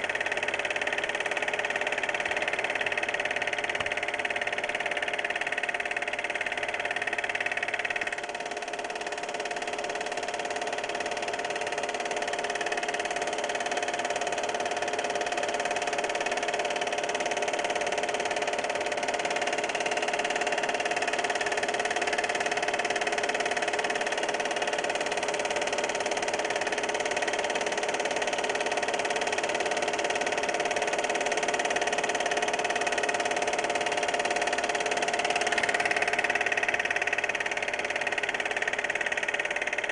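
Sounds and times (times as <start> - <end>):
motor whirring and humming: 0.0 - 39.9.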